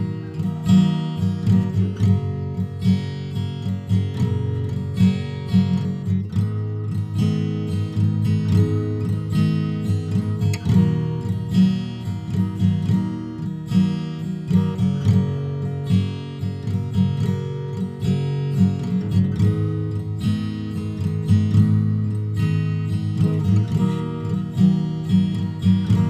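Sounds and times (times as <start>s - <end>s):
guitar strummed: 0.0s - 26.0s.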